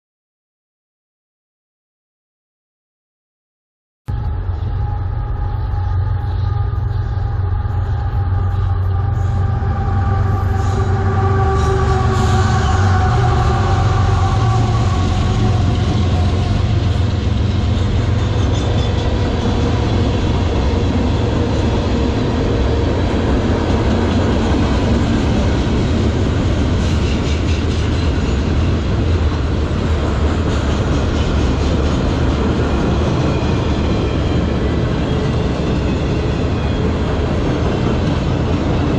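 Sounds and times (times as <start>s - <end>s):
train wheels rumbling on rail: 4.1s - 38.9s.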